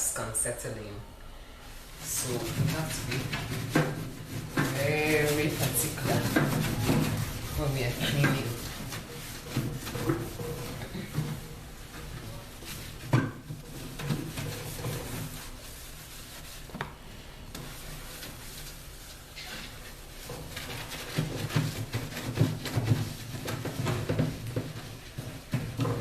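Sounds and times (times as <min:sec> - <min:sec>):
cloth rubbing on casing: 0:01.8 - 0:26.0.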